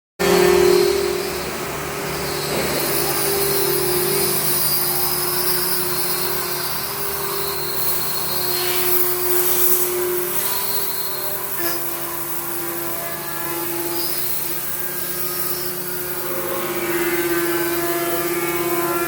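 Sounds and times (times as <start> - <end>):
router spindle cutting plastic: 0.2 - 19.0.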